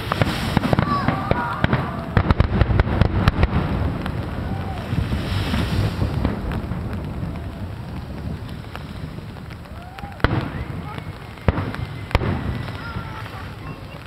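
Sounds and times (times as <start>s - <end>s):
fireworks cracking and popping: 0.0s - 14.0s
low rolling rumble: 0.0s - 14.0s
wind noise on microphone: 0.0s - 14.0s.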